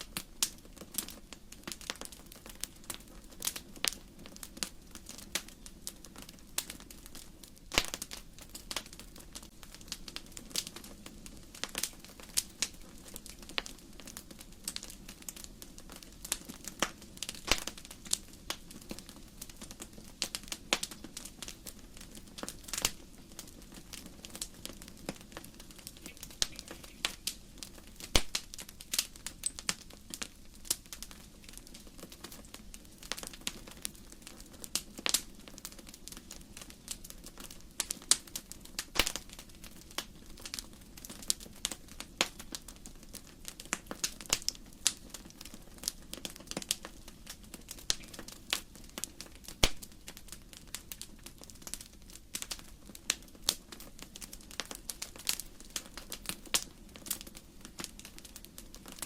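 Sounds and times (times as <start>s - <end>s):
faint low background noise: 0.0s - 59.0s
wood fire crackling: 0.0s - 59.0s.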